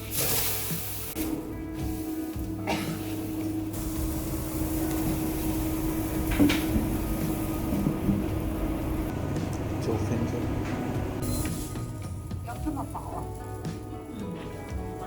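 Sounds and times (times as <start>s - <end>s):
machine humming: 1.1s - 13.5s.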